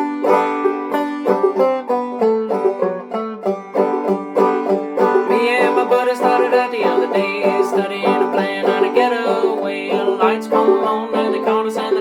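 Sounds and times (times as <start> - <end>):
banjo playing: 0.0 - 12.0.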